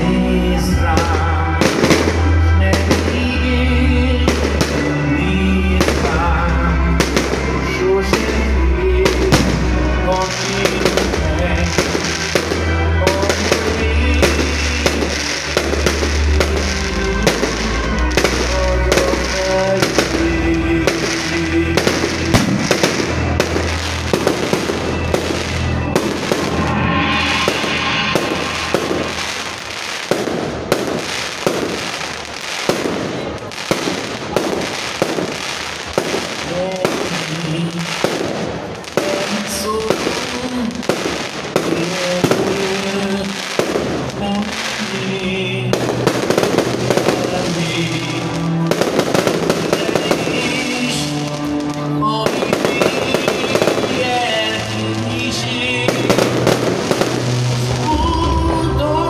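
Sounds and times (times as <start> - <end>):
fireworks bangs: 0.0 - 58.9
fireworks crackling: 0.0 - 59.0
loud music with heavy bass: 0.0 - 59.0.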